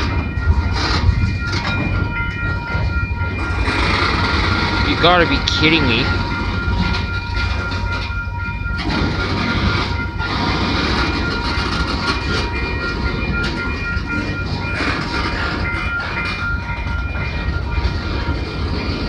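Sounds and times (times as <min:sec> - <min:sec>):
freight train wheels rumbling on rail: 0:00.0 - 0:19.0
high ringing tones: 0:00.0 - 0:19.0.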